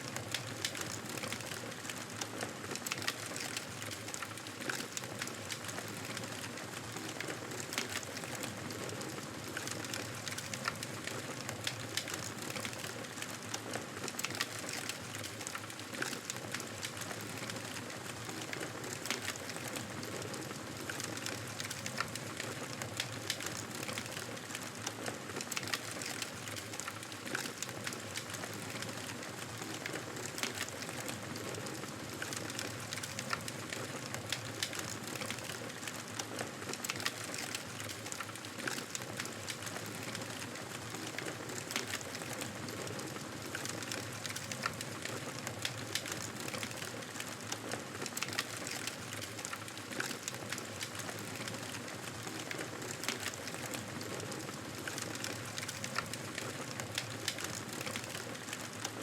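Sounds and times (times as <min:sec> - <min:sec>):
burning wood crackling and popping: 0:00.1 - 0:59.0.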